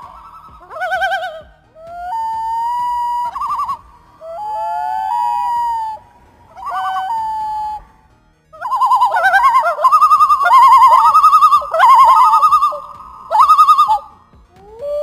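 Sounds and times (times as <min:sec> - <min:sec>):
loon quavering call: 0:00.0 - 0:15.0
loon tremolo call: 0:00.0 - 0:15.0
loons wailing: 0:00.0 - 0:15.0.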